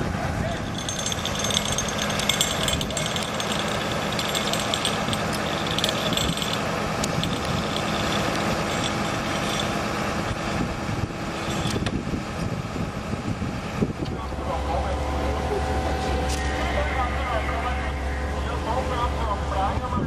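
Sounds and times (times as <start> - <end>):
engine-driven machinery running: 0.0 - 19.7.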